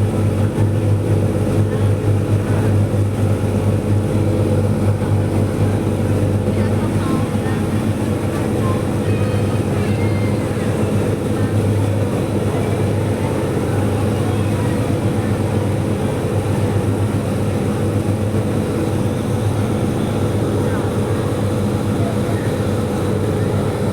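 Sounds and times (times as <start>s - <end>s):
ferry engine droning: 0.0s - 23.9s.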